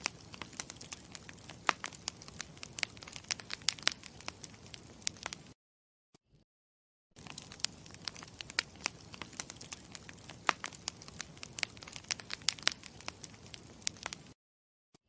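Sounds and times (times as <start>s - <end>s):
campfire crackling: 0.0s - 5.6s, 7.2s - 14.4s.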